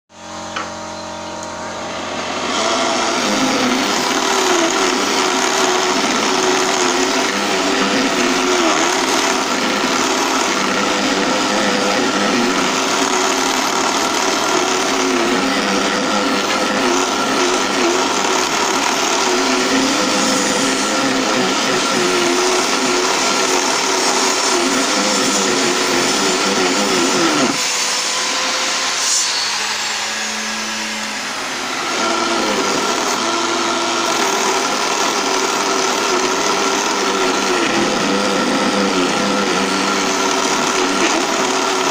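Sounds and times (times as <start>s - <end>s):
lathe motor running: 0.1s - 41.9s
rasp scraping spinning wood: 2.3s - 29.3s, 31.9s - 41.9s.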